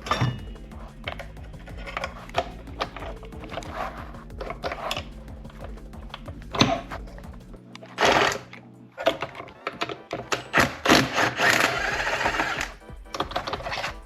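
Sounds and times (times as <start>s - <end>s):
metallic clicking and scraping: 0.0s - 14.0s.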